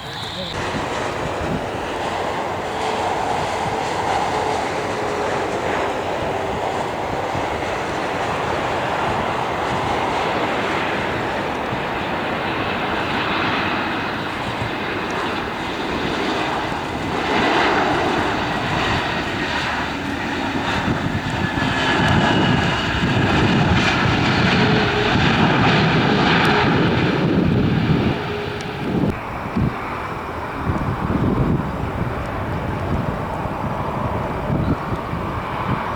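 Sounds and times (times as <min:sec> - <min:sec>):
jet engines rushing: 0:00.0 - 0:35.9.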